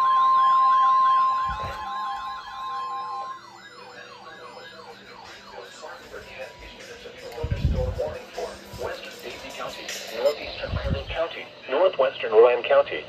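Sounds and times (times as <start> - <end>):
warbling siren-like alarms: 0.0 - 11.6
loud steady alert tone: 0.0 - 11.7.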